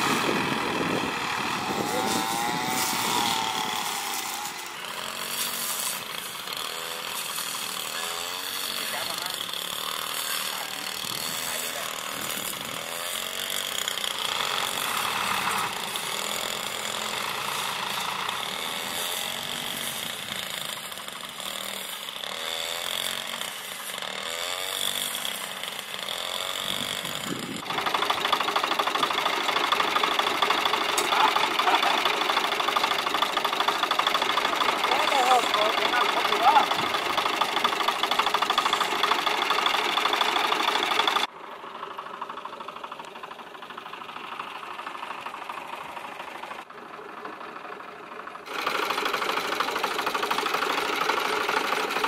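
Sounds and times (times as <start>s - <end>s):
tractor diesel engine revving: 0.0s - 52.0s
engine knocking rattle: 6.6s - 23.3s, 26.0s - 52.0s.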